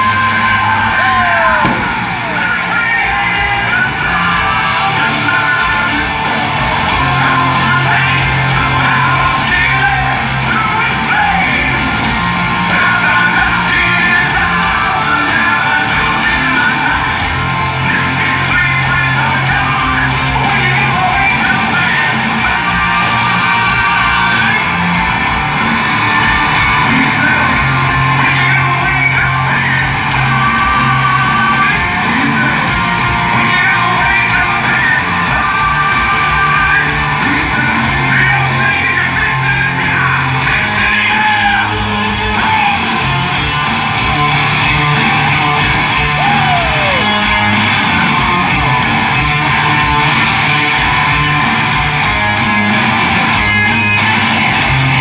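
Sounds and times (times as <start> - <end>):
hard rock band playing: 0.0 - 55.0
yelled vocals: 0.0 - 55.0.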